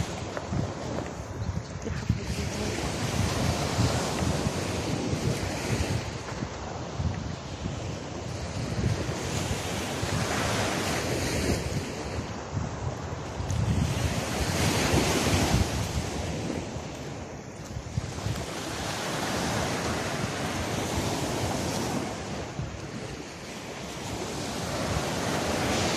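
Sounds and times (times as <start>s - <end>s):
small waves breaking on beach: 0.0s - 25.9s
wind buffeting microphone: 0.0s - 25.9s.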